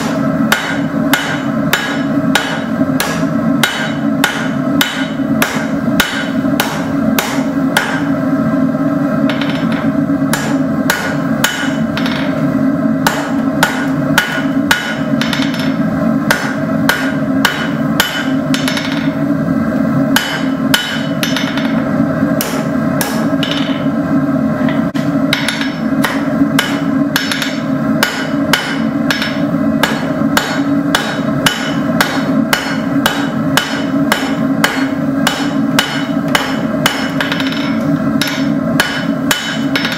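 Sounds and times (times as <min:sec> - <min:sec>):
hammer striking steel on anvil: 0:00.0 - 0:08.1, 0:09.3 - 0:12.4, 0:13.0 - 0:19.2, 0:20.2 - 0:21.8, 0:22.4 - 0:24.0, 0:24.7 - 0:39.9.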